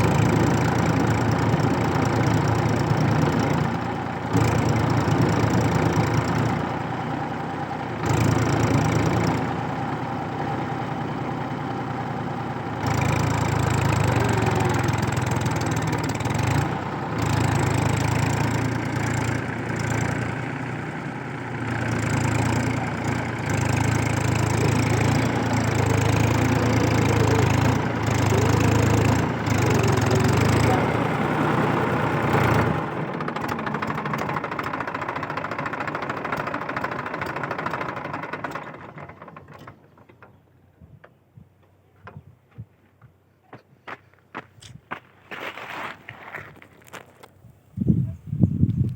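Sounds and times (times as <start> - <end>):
tractor diesel engine labouring: 0.0 - 40.7.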